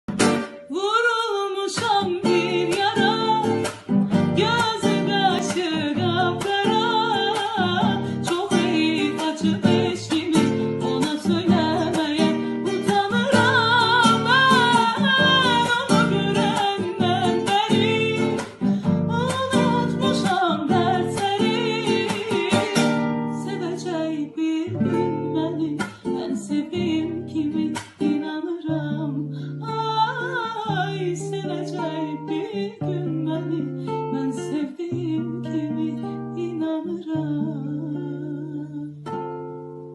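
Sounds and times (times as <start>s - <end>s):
plucked acoustic guitar: 0.1s - 39.9s
person singing with ornamented voice: 0.6s - 39.0s.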